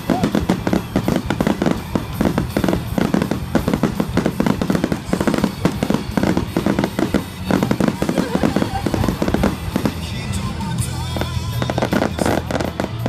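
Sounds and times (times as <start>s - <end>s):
background music: 0.0s - 13.0s
fireworks bangs and crackles: 0.0s - 13.0s.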